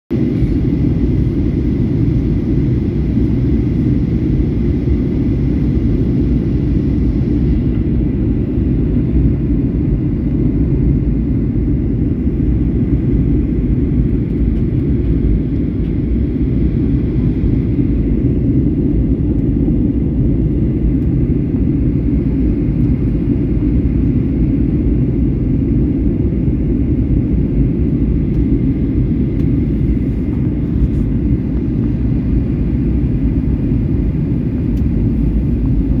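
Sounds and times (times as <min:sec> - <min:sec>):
jet engine and airflow rumble: 0:00.1 - 0:36.0.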